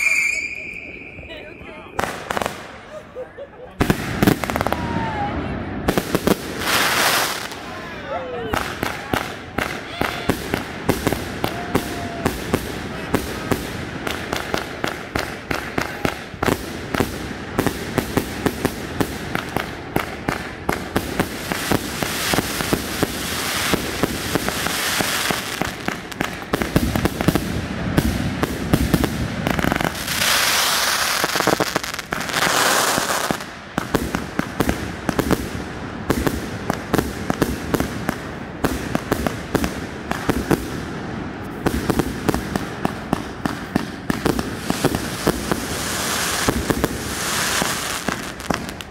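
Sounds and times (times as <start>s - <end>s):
fireworks bursting cracks: 0.0s - 2.9s, 3.8s - 48.9s.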